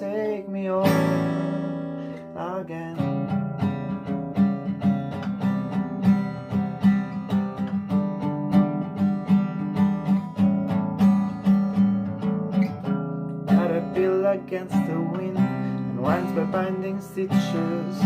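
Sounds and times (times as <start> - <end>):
solo acoustic guitar: 0.0 - 18.0.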